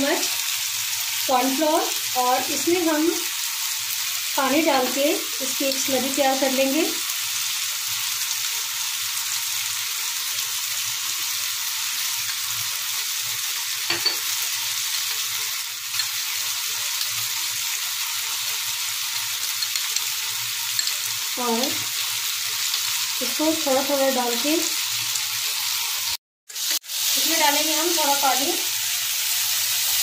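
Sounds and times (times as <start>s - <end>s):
vegetables sizzling in a frying pan: 0.0s - 30.0s.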